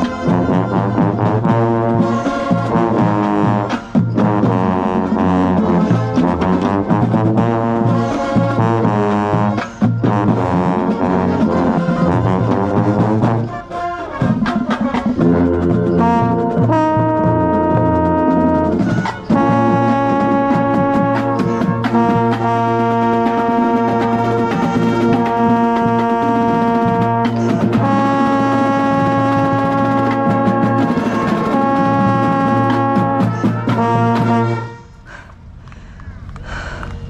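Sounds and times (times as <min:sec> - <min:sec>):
brass band playing: 0:00.0 - 0:35.0
trombone: 0:00.0 - 0:35.0.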